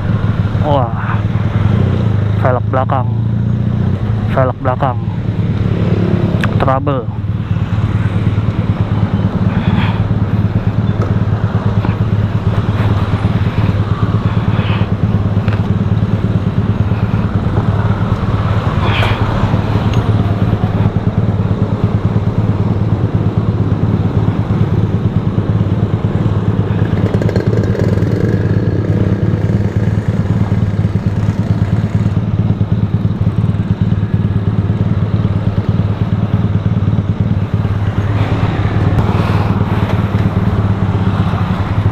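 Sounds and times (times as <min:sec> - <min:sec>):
engine and road drone: 0:00.0 - 0:41.9.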